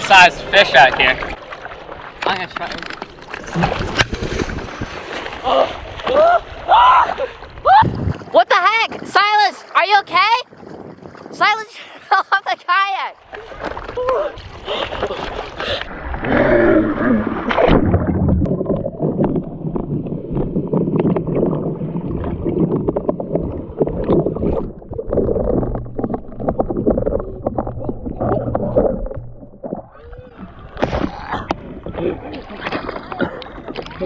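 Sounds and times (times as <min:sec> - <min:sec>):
water sloshing and gurgling: 0:00.0 - 0:12.2, 0:13.2 - 0:34.0.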